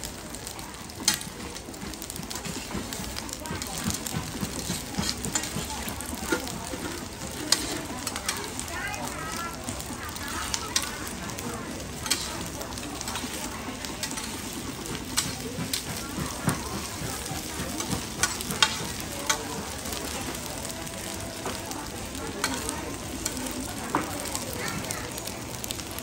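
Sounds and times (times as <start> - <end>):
food sizzling in oil: 0.0 - 26.0
tongs and spatula clinking on pan: 1.0 - 1.6, 2.4 - 20.4, 22.3 - 24.8.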